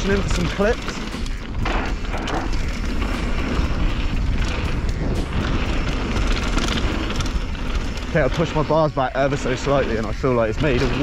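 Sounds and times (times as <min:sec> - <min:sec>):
bike rattling and clicking: 0:00.0 - 0:11.0
tyres on gravelly dirt: 0:00.0 - 0:11.0
wind buffeting microphone: 0:00.0 - 0:11.0.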